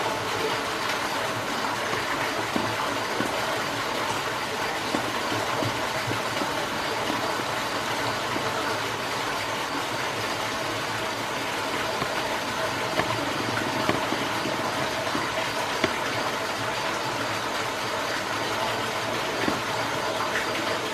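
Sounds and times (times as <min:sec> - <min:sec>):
mechanical hum and hiss: 0:00.0 - 0:20.9.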